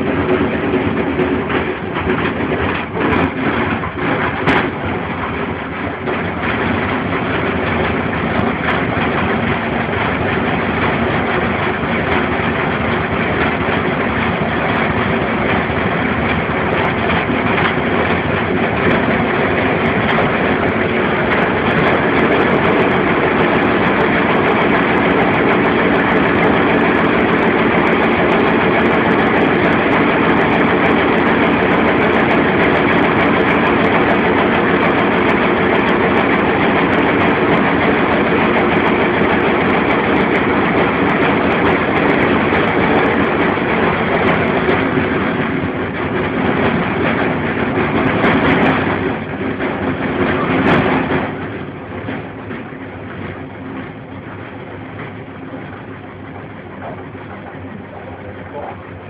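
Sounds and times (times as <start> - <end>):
washing machine whirring: 0.0 - 59.0.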